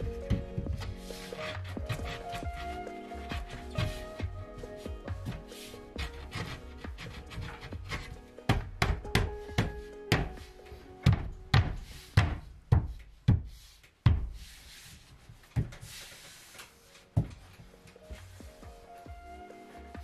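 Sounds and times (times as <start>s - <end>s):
hands thumping plasterboard: 0.0s - 16.2s
soft background music: 0.0s - 20.0s.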